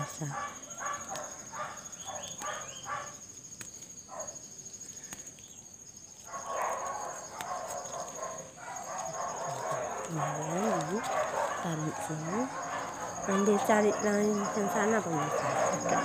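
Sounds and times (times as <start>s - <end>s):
dog barking: 0.0s - 3.2s, 4.1s - 4.4s, 6.3s - 16.0s
high insect trill: 0.0s - 16.0s.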